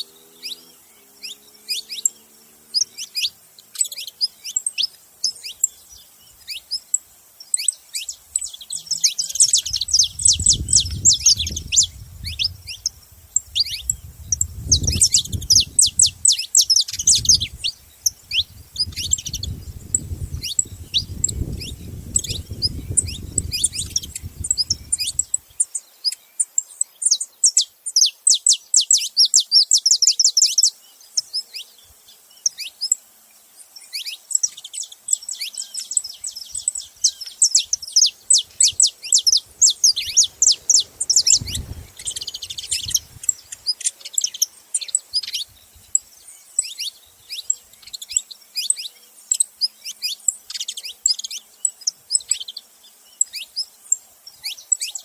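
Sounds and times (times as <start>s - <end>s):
finches chirping: 0.0s - 33.0s, 33.8s - 55.0s.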